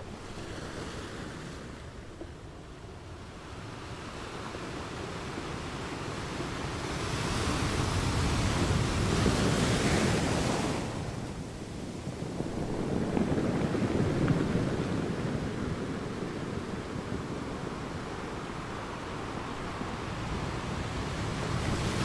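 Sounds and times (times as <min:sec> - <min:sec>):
ocean waves breaking on sand: 0:00.0 - 0:22.0.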